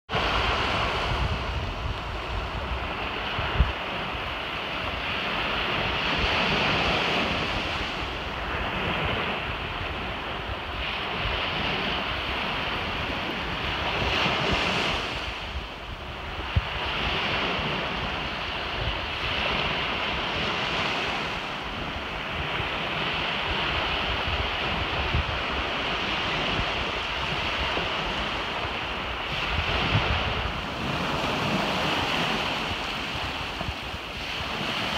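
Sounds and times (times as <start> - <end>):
surf washing on beach: 0.1 - 34.9
wind on microphone: 0.1 - 34.9.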